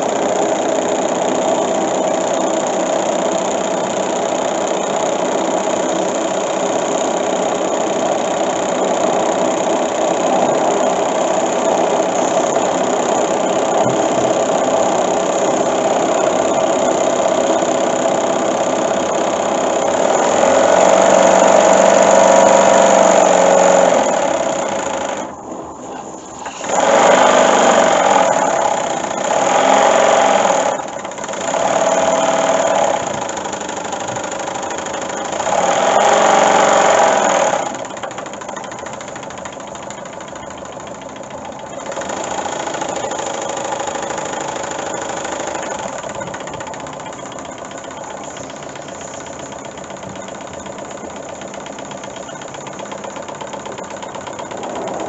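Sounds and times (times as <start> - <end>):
model steam engine chuffing: 0.0 - 55.0.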